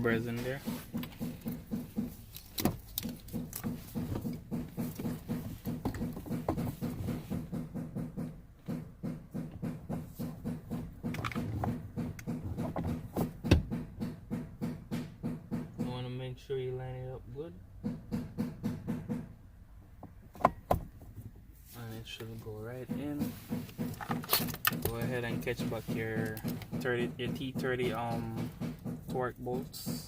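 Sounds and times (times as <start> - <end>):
fast tapping on dent: 0.6 - 16.0, 17.8 - 19.4, 22.7 - 30.0.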